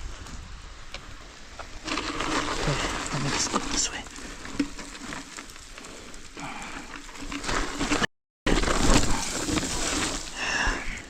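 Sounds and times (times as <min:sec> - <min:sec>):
bike moved through dry brush: 0:00.0 - 0:11.0
footsteps crunching on dirt: 0:01.1 - 0:10.4.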